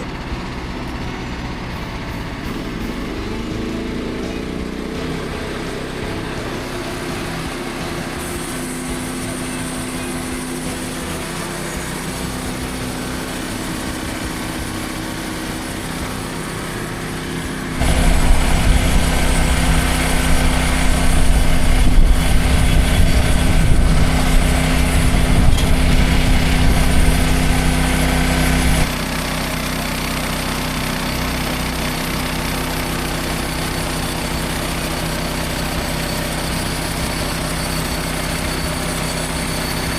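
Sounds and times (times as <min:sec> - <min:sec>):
sawmill gas engine running: 0:00.0 - 0:39.9.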